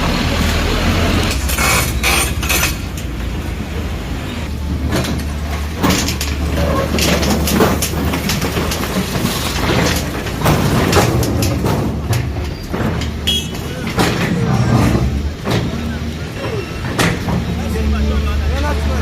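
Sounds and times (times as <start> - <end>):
demolition machine engine hum: 0.0 - 19.0
clanks and knocks: 1.3 - 18.0.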